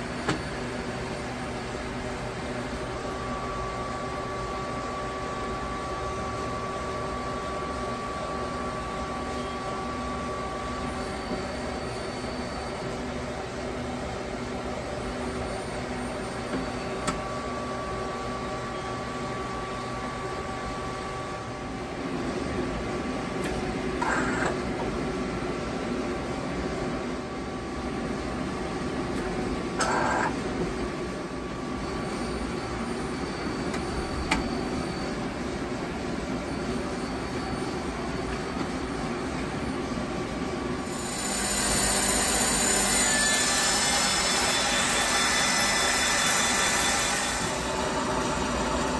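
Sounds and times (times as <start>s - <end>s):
lathe machine hum with whining: 0.0s - 48.9s.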